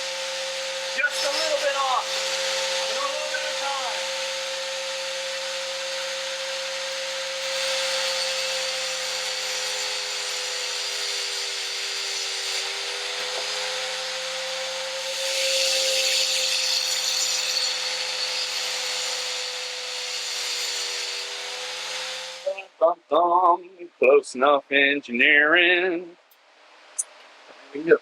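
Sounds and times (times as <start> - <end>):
electric grinder grinding steel: 0.0 - 22.7.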